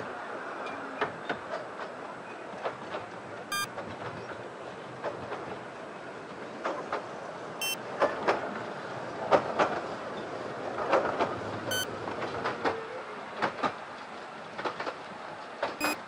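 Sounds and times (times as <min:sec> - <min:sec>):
train rolling rumble: 0:00.0 - 0:16.0
wheels clicking over rail joints: 0:00.6 - 0:15.8.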